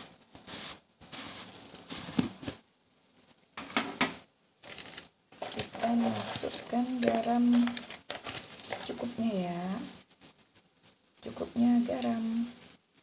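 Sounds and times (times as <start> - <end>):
broth hissing and crackling: 0.0 - 13.0.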